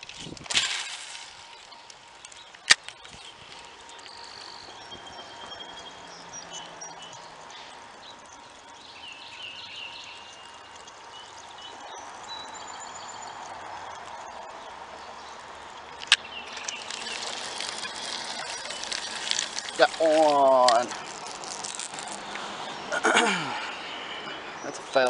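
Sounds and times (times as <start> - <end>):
birds chirping: 1.2 - 25.0.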